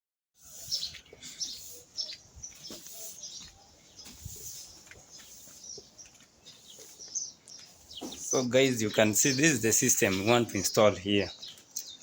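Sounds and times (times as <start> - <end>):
birds chirping: 0.4 - 12.0.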